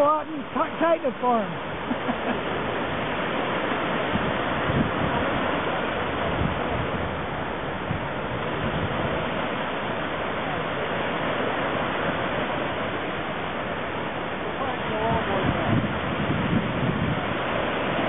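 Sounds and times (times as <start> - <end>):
small waves breaking: 0.0 - 18.0
wind noise on microphone: 0.0 - 18.0.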